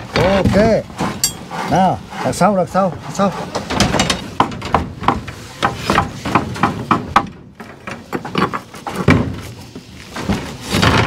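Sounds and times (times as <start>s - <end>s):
steel bars knocking and clanking: 0.1s - 9.4s.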